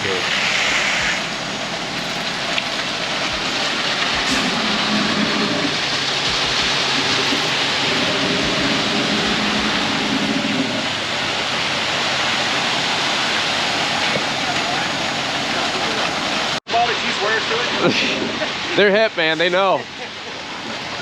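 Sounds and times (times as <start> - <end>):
steady rushing noise: 0.0 - 19.6.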